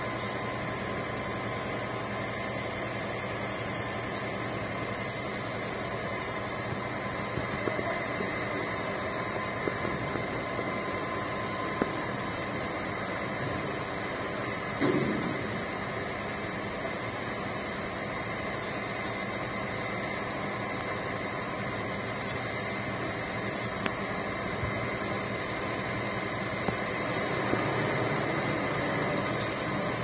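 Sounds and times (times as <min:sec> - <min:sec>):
mechanical drone and hiss: 0:00.0 - 0:30.0
thin whine: 0:00.0 - 0:30.0.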